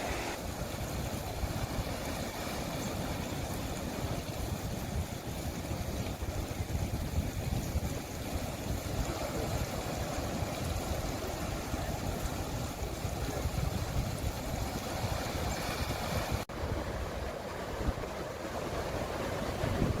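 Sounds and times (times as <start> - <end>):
sea water rushing: 0.0 - 20.0.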